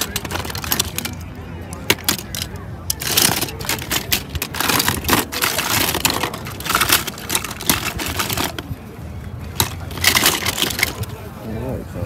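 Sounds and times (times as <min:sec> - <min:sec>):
toy cars clattering: 0:00.0 - 0:08.7, 0:09.5 - 0:11.2.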